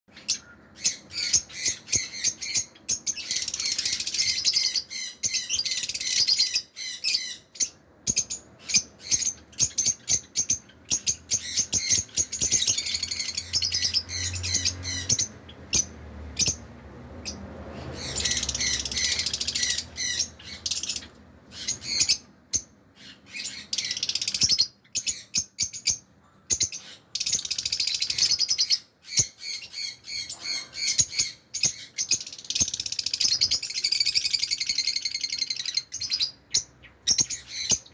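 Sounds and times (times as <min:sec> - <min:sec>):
parrots chattering: 0:00.1 - 0:37.9
rapid shrill bird chirps: 0:00.2 - 0:37.9.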